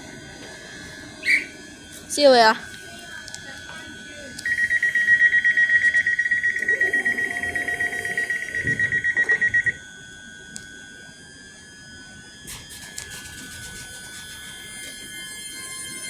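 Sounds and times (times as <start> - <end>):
train door warning beeping: 0.4 - 11.1, 12.4 - 16.0.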